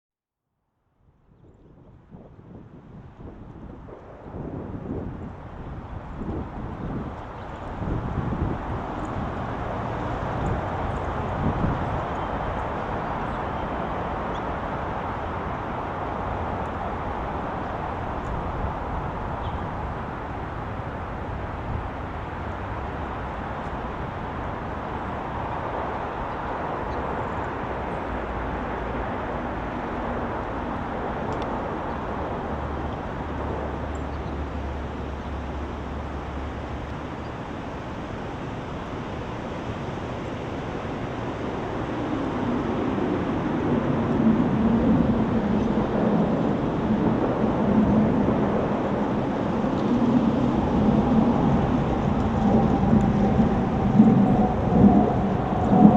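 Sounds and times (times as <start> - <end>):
outdoor background rumble: 2.7 - 55.9.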